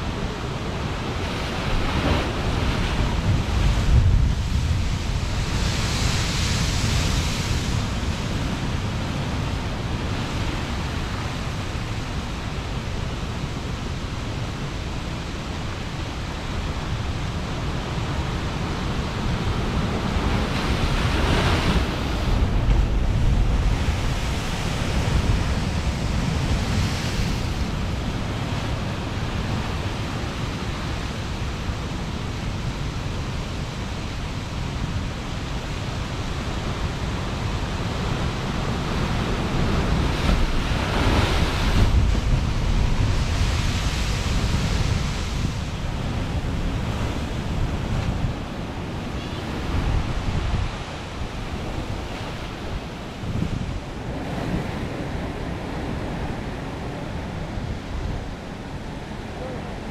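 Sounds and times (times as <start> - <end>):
ocean surf on rocks: 0.0 - 59.9.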